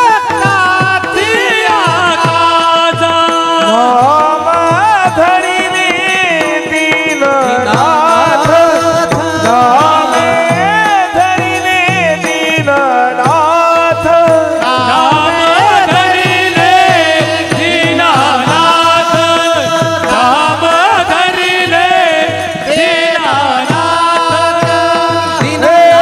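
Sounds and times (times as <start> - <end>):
drum beat: 0.0 - 26.0
man singing devotional song: 0.0 - 26.0.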